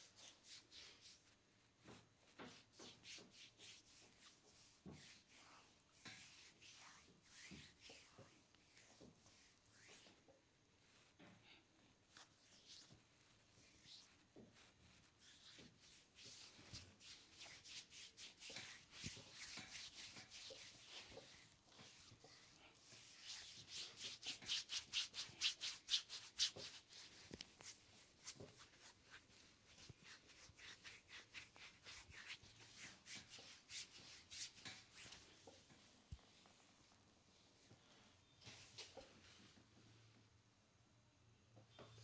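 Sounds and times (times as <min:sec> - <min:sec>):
hands rubbing skin: 0:00.0 - 0:01.4, 0:02.3 - 0:10.2, 0:12.1 - 0:37.7.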